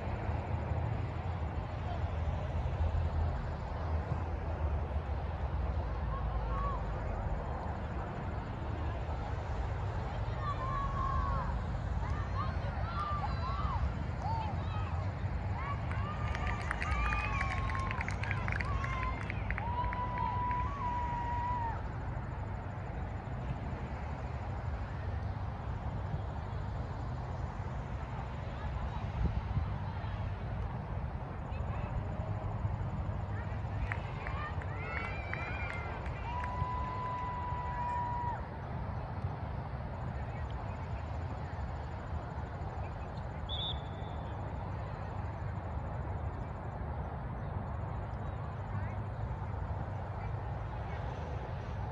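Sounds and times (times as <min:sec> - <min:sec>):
low outdoor rumble: 0:00.0 - 0:51.9.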